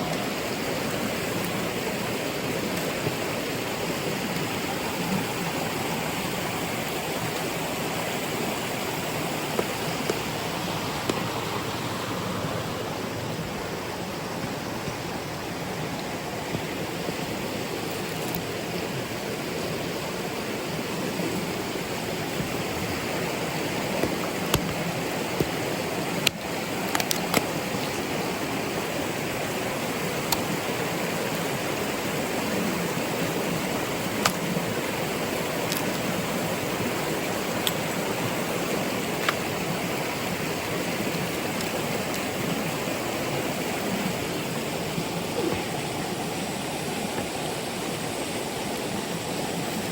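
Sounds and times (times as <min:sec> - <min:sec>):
stream water over rocks: 0:00.0 - 0:49.9.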